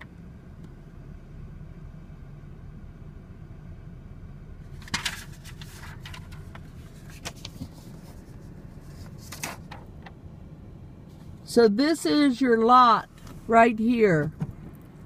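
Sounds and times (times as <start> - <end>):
car driving slowly from inside: 0.0 - 15.0.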